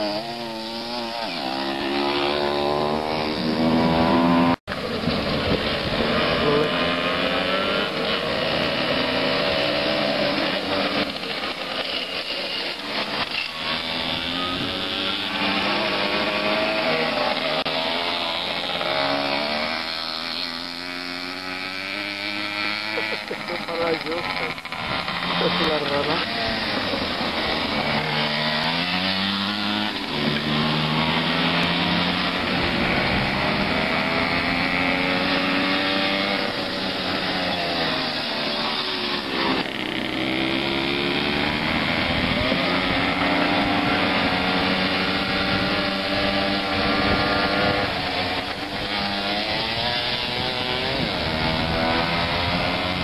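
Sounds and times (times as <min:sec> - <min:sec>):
mopeds revving past: 0:00.0 - 0:53.0.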